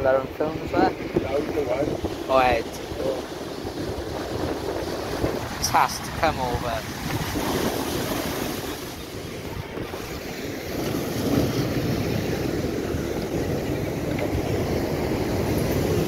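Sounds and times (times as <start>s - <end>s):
waves breaking against a wall: 0.0s - 16.0s
wind buffeting microphone: 0.0s - 16.0s.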